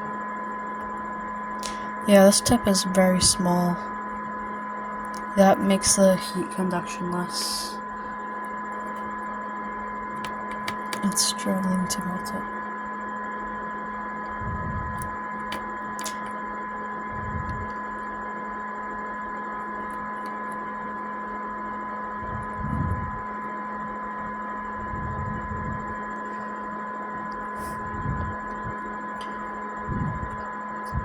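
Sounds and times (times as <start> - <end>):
electrical hum with high whine: 0.0 - 31.0.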